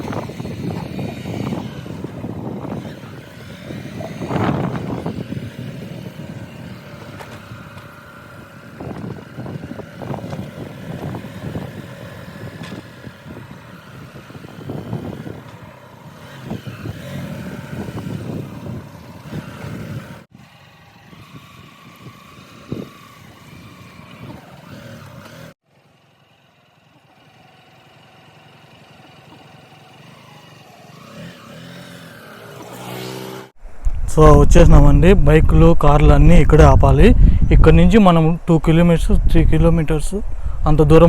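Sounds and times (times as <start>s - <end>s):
motorcycle engine: 0.0s - 41.0s
road noise: 0.0s - 41.0s.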